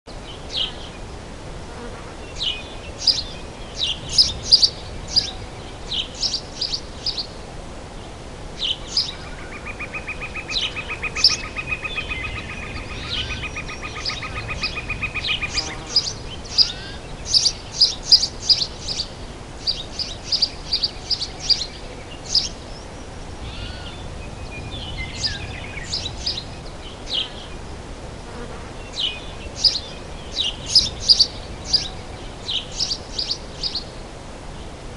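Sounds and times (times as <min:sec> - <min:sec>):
birds chirping: 0:00.1 - 0:01.1, 0:02.2 - 0:07.4, 0:08.0 - 0:27.8, 0:28.7 - 0:34.8.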